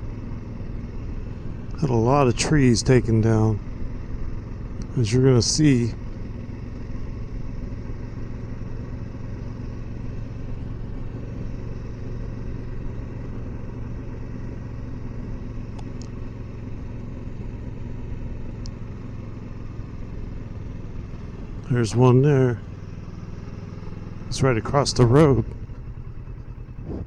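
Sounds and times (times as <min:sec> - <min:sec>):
motorcycle engine drone: 0:00.0 - 0:27.0
wind and road noise: 0:00.0 - 0:27.0.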